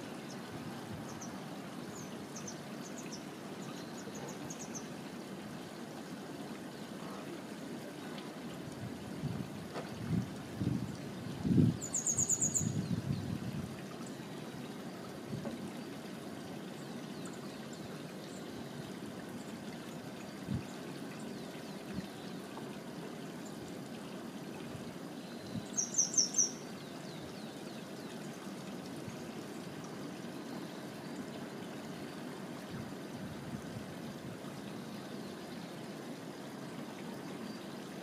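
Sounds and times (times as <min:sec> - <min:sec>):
water trickling over rocks: 0:00.0 - 0:38.0.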